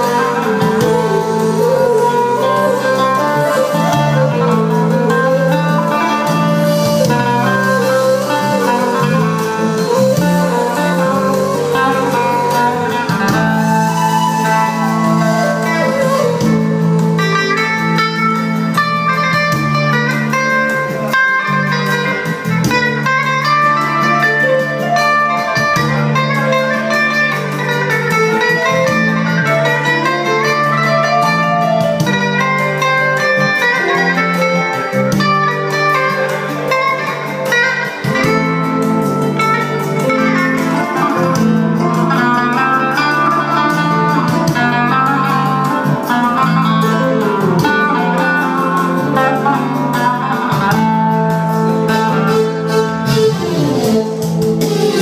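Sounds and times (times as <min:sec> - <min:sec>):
plucked string melody: 0:00.0 - 0:55.0.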